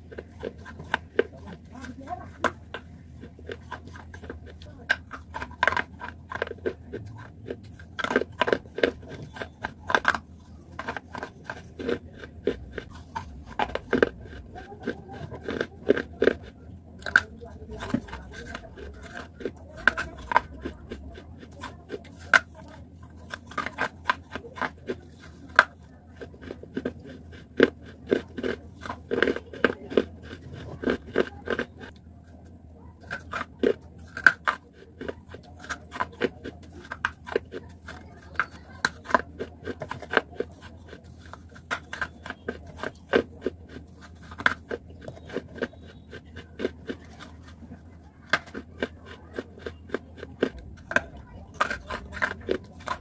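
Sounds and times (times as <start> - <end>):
chewing: 0.0 - 53.0
crunching baked clay: 0.0 - 53.0.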